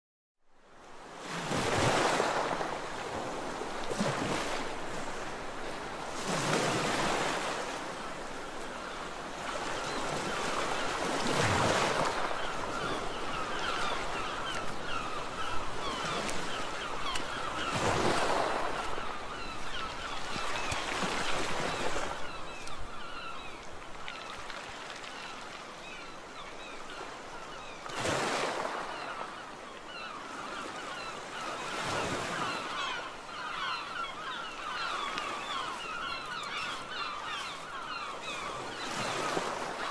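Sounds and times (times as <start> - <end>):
gulls calling: 6.4 - 39.9.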